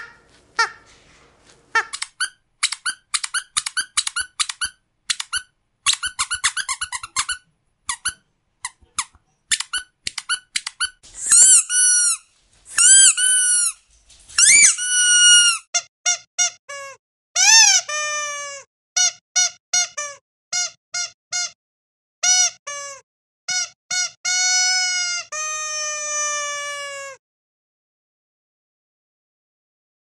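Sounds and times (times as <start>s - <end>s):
squeaky dog toy squeaks: 1.7s - 13.8s, 14.4s - 21.6s, 22.2s - 27.2s.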